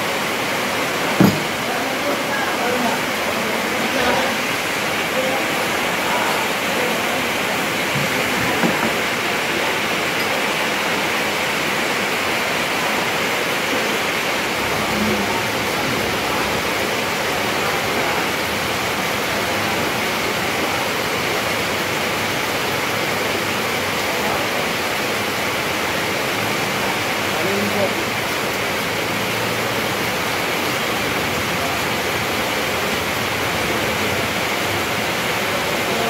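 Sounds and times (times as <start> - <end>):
light rain falling: 0.0 - 36.0.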